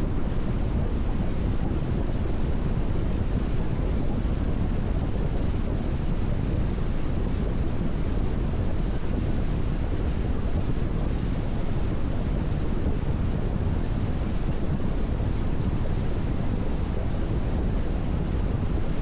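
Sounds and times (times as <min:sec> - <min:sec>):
wind noise: 0:00.0 - 0:19.0.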